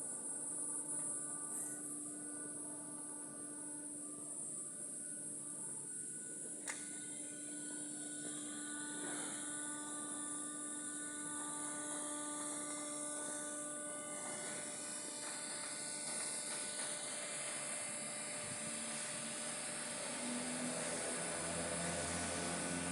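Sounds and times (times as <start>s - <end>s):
faint steady tones: 0.0s - 22.9s
mechanical whir: 0.3s - 22.9s.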